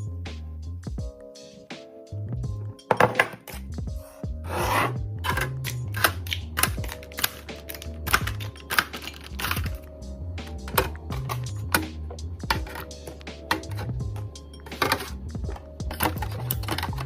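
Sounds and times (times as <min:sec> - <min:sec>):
background music with bass line: 0:00.0 - 0:17.0.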